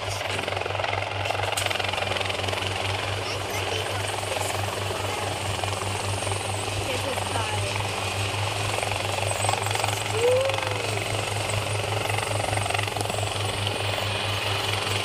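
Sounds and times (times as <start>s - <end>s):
helicopter hovering: 0.0s - 15.0s.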